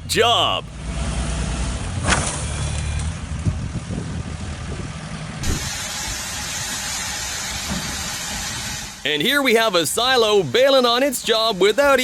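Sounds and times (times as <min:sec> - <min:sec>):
outdoor noise: 0:00.0 - 0:12.0
vehicle engine humming: 0:00.0 - 0:12.0.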